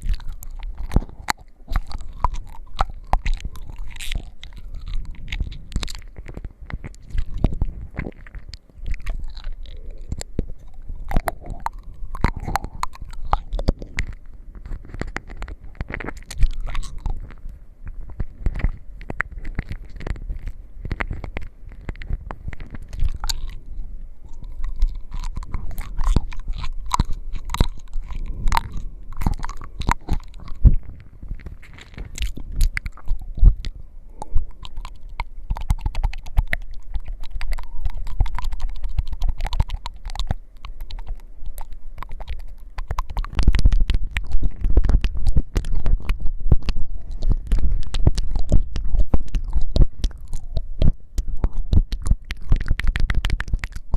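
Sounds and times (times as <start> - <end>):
scratching and mouth clicks: 0.0 - 53.9.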